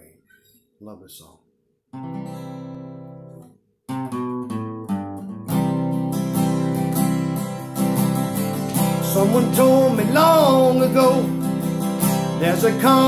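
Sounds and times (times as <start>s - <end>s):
acoustic guitar strumming: 1.9s - 13.0s.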